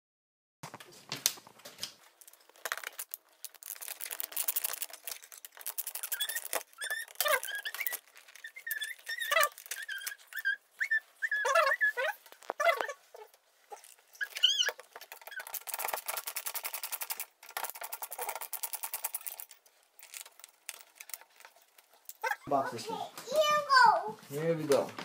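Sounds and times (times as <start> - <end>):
screws squeaking: 2.2 - 22.7.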